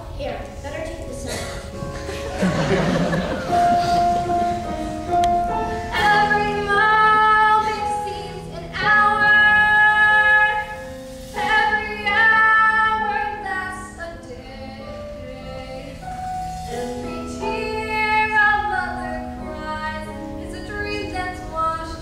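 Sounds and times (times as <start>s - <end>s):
held musical chords: 0.8s - 21.9s.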